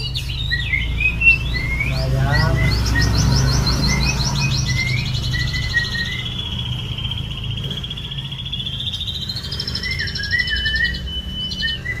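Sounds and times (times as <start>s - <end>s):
bird singing rapid trill: 0.0s - 12.0s.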